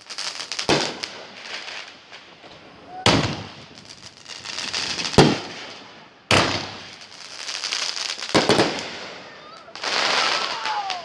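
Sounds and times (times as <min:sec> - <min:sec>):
fireworks bangs: 0:00.0 - 0:11.0
fireworks crackling and hiss: 0:00.0 - 0:11.0.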